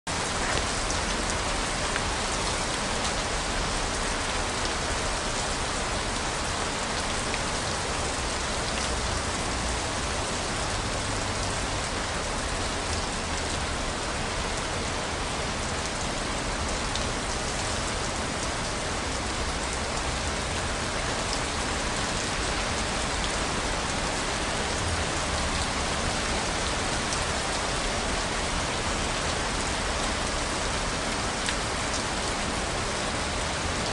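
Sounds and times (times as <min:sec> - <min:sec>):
steady rain hiss: 0:00.1 - 0:33.9.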